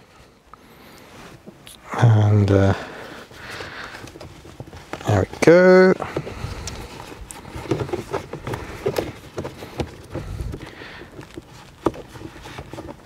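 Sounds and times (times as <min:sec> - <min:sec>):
rubber gaiter rustling and rubbing: 0:00.7 - 0:13.0.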